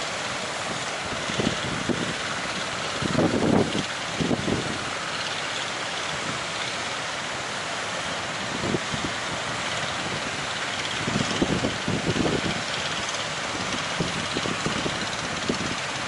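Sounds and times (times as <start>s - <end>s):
wind buffeting microphone: 0.0s - 7.0s, 8.1s - 16.0s
sea surf: 0.0s - 16.0s.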